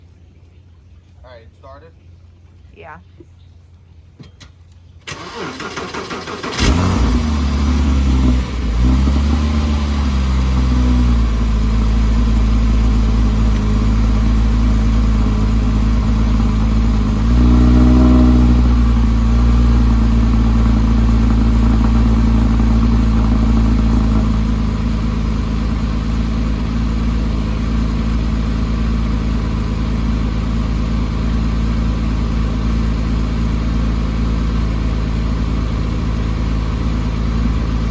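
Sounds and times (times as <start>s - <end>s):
car engine cold start and idle: 4.1s - 37.9s.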